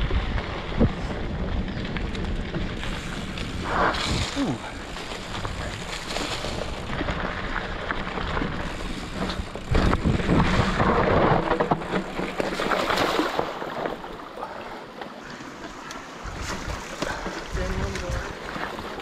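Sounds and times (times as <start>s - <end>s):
wind buffeting microphone: 0.0s - 12.4s, 16.1s - 19.0s.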